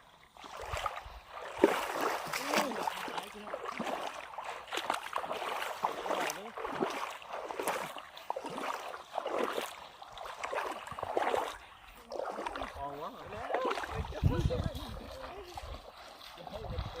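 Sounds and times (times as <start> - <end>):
pond water splashing: 0.0 - 17.0.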